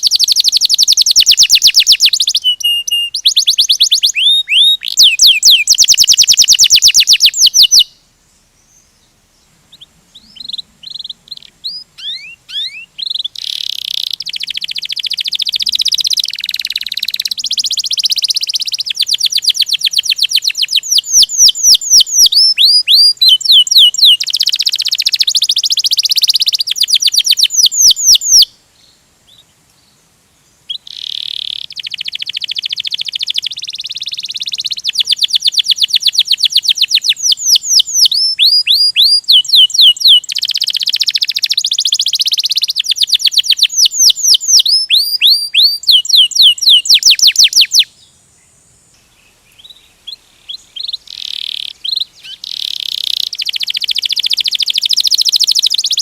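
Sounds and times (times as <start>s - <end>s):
canary singing rolling trills: 0.0s - 30.0s, 30.6s - 48.1s, 49.0s - 56.0s.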